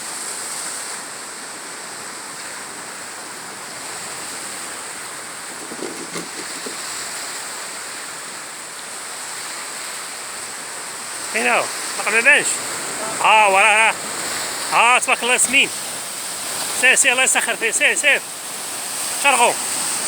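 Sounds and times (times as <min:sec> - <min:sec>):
sea surf rushing: 0:00.0 - 0:20.0.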